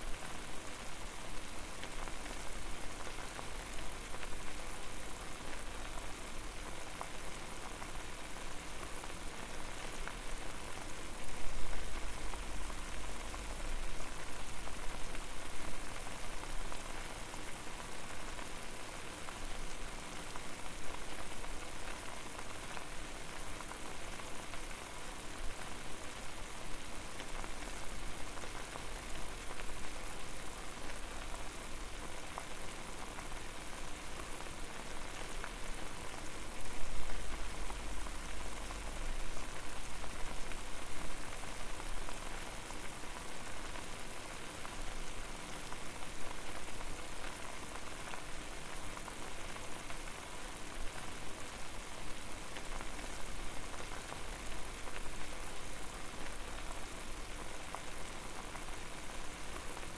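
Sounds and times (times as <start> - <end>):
water boiling in pot: 0.0 - 59.9.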